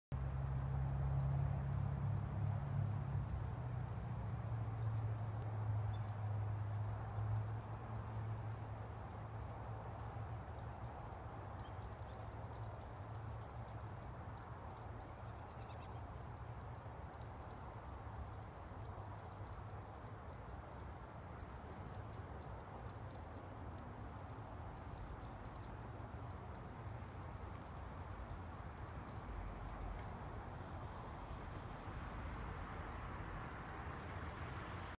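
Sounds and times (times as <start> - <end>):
bushtits twittering: 0.3 - 2.7, 3.3 - 31.1.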